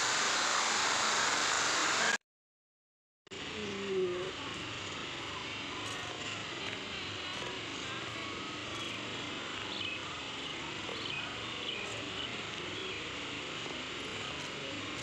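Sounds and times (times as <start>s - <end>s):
steady outdoor background hiss: 0.0s - 2.2s, 3.3s - 15.0s.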